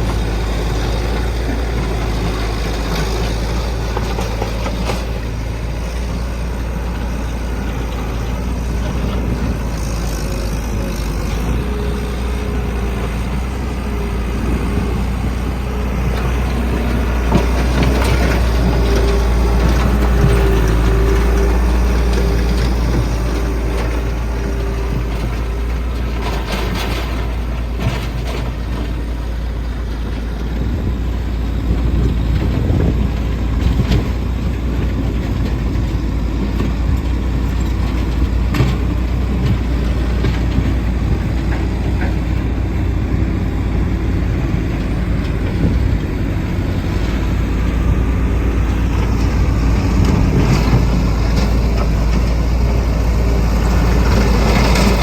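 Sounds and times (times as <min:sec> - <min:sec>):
heavy diesel engines rumbling: 0:00.0 - 0:55.0.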